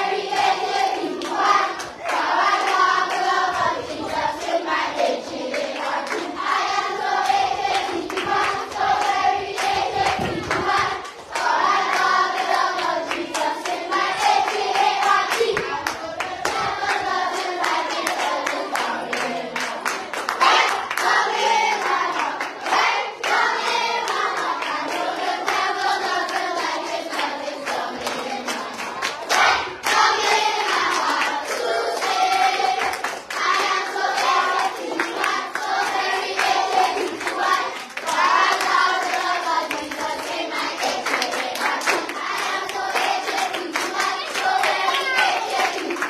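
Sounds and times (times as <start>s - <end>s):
children singing in chorus: 0.0s - 46.0s
hands clapping: 0.4s - 6.5s, 7.2s - 46.0s.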